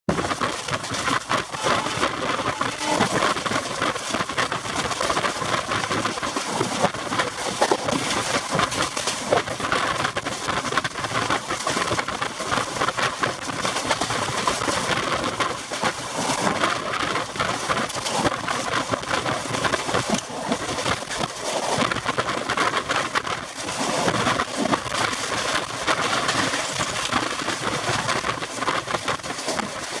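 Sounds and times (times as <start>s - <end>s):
train wheels clattering on rails: 0.1s - 30.0s.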